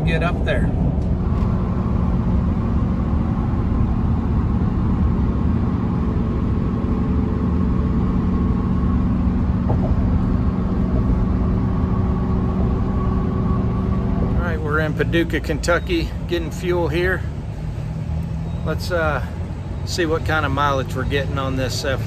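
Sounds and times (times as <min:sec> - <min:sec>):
pickup truck road and engine drone: 0:00.0 - 0:22.0.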